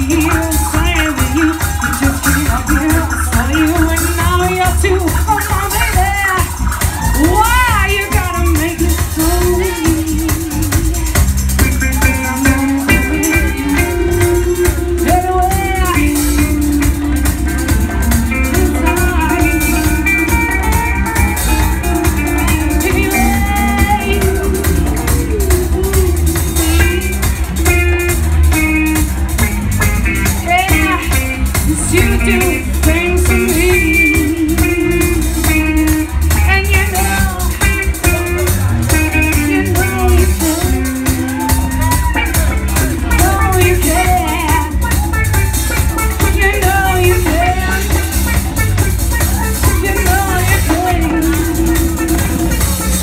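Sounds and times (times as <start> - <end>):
bass guitar: 0.0 - 53.0
drums: 0.0 - 53.0
live band music: 0.0 - 53.0
wavering lead melody: 0.0 - 53.0.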